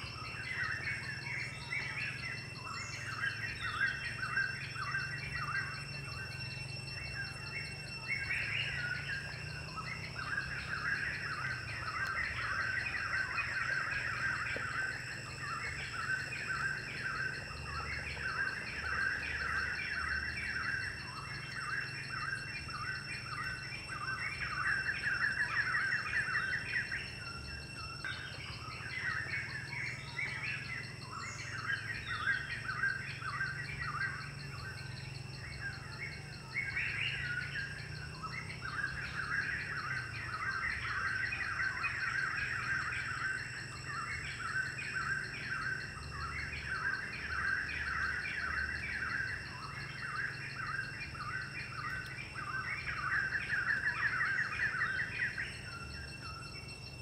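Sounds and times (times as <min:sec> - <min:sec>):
high-pitched insect drone: 0:00.0 - 0:57.0
small birds chirping: 0:00.0 - 0:57.0.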